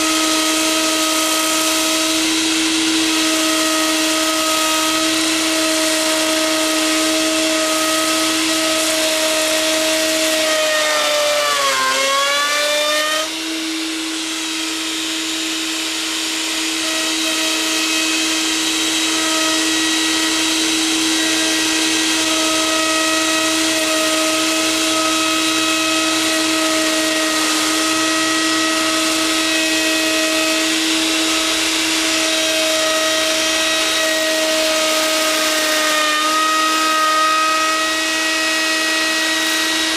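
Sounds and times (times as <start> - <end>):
router motor whine: 0.0 - 39.9.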